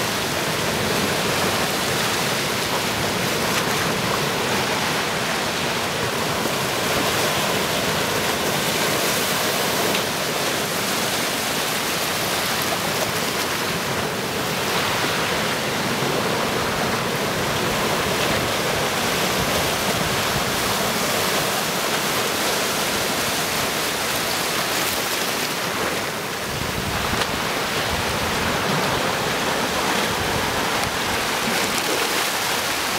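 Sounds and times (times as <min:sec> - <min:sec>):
surf breaking on rocks: 0:00.0 - 0:32.9.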